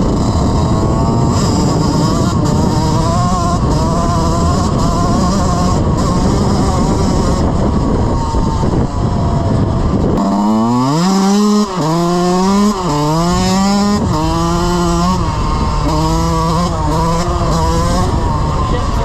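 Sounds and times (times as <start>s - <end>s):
dirt bike engine accelerating: 0.0s - 19.0s
wind noise rushing: 0.0s - 19.0s.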